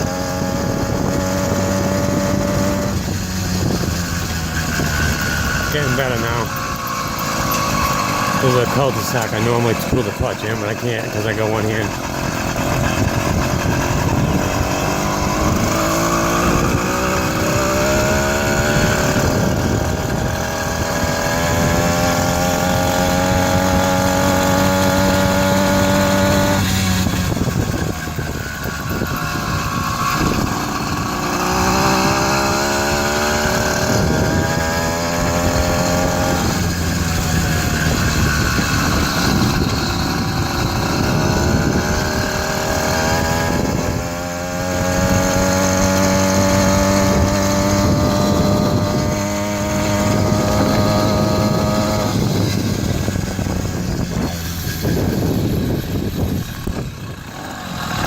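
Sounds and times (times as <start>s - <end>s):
two-stroke engine running: 0.0s - 58.0s.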